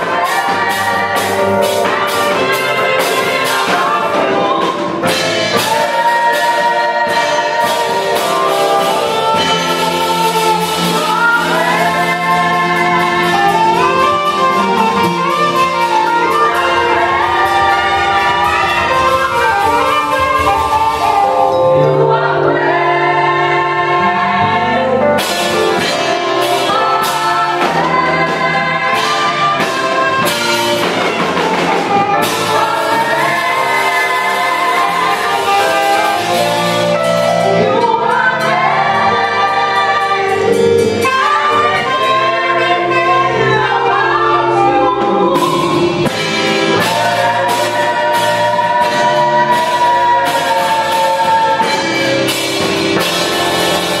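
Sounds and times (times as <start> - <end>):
gospel choir singing in harmony: 0.0 - 54.0
saxophone: 0.0 - 54.0.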